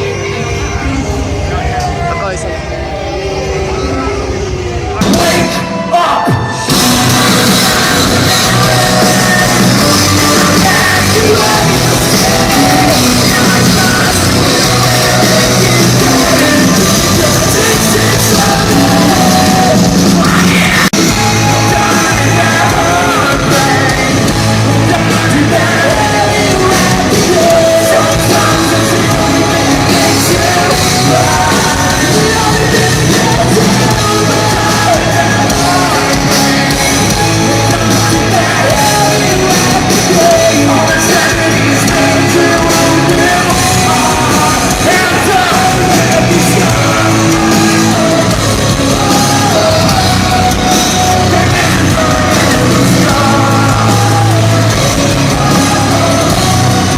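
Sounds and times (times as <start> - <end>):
rock music with vocals: 0.0 - 56.9.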